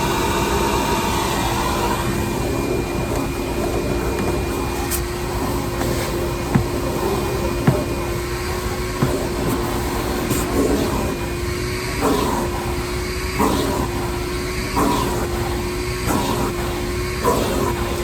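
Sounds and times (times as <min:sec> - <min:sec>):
shop vac motor whine: 0:00.0 - 0:18.0.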